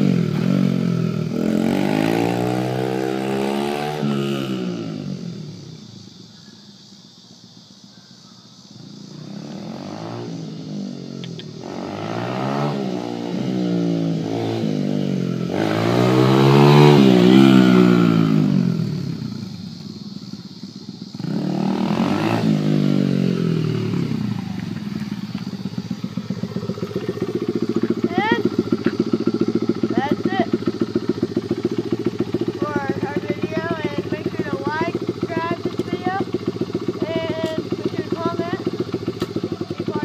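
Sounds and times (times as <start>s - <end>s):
dirt bike engine revving: 0.0s - 6.1s, 8.8s - 40.0s.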